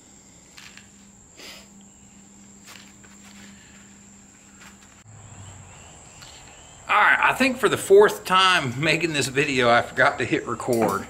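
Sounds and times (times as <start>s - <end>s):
high-pitched cricket trill: 0.0s - 10.8s.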